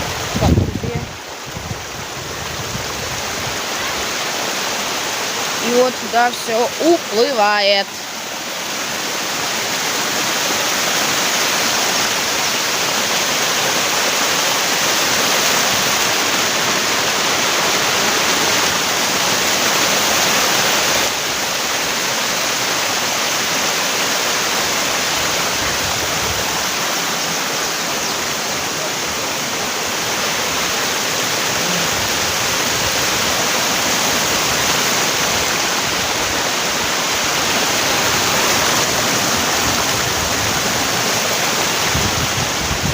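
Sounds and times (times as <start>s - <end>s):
water pouring and splashing: 0.0s - 42.9s.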